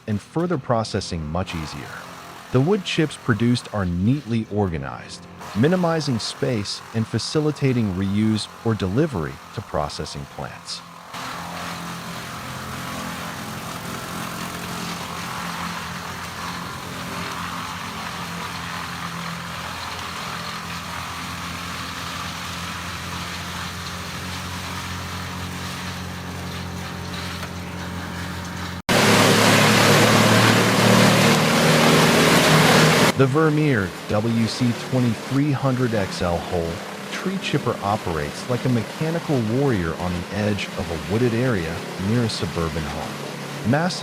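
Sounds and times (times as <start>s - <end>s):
brush chipper engine running: 0.0s - 44.0s
loud rough chipper sound: 0.0s - 44.0s.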